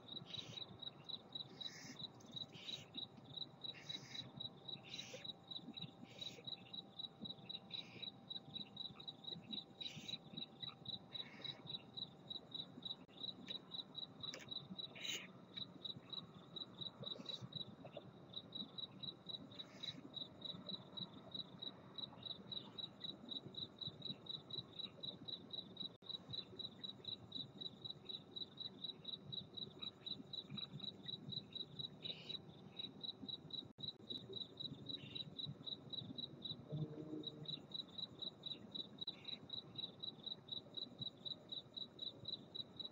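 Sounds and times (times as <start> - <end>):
cricket chirping: 0.0 - 42.9.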